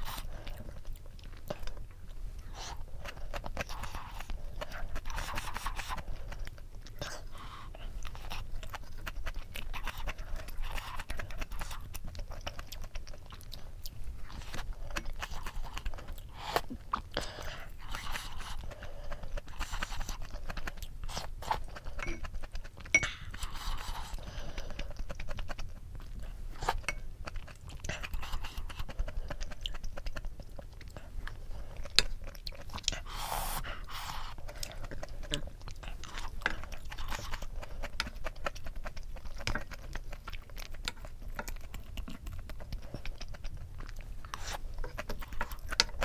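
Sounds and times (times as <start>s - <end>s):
chewing and crunching: 0.0s - 46.0s.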